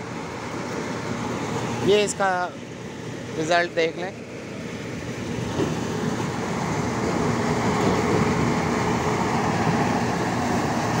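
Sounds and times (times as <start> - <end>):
tractor engine: 0.0 - 11.0.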